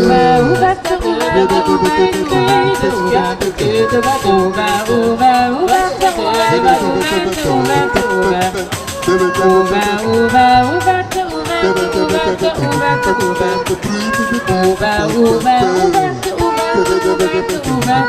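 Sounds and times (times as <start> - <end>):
quick percussive pulse: 0.0 - 18.0
voices singing in harmony: 0.0 - 18.0.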